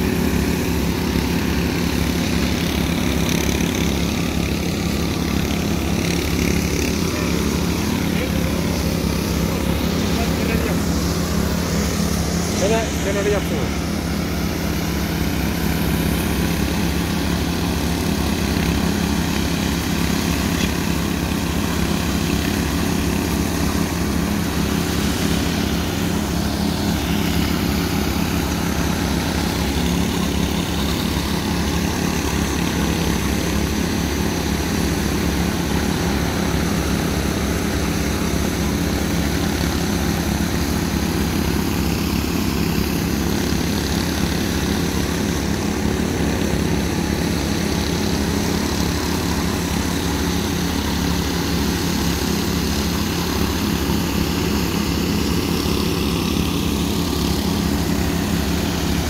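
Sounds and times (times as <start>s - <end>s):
power trowel engines droning: 0.0s - 59.0s.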